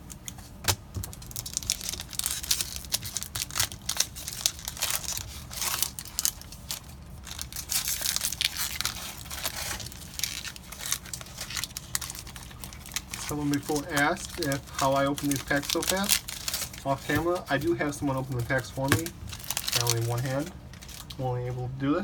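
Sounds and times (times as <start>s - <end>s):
cards being taken out: 0.0s - 21.2s
foil wrapper crinkling: 0.0s - 21.6s.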